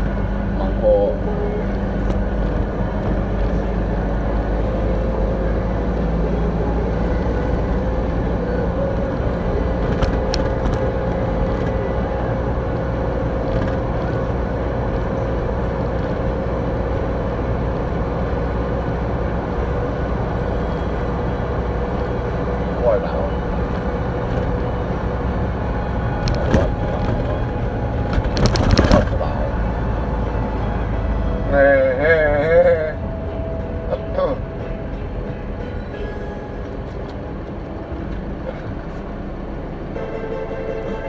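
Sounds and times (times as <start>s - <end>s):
steady whine: 0.0s - 41.0s
truck engine: 0.0s - 41.0s.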